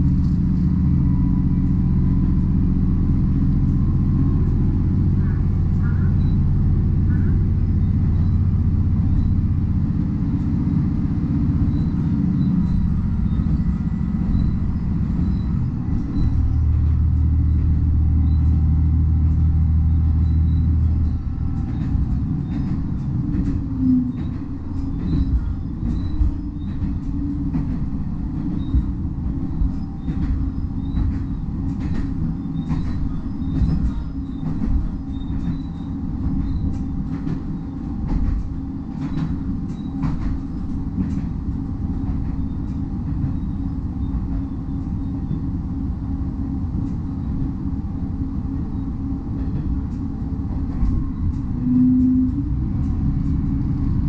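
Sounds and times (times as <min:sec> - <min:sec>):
diesel engine drone: 0:00.0 - 0:54.0
wheels clicking over rail joints: 0:07.0 - 0:54.0.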